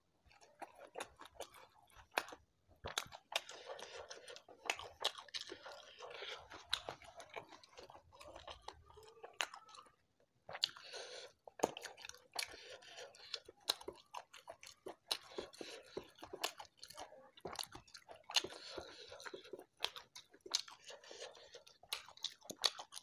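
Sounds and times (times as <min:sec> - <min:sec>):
person chewing: 0:00.2 - 0:23.0.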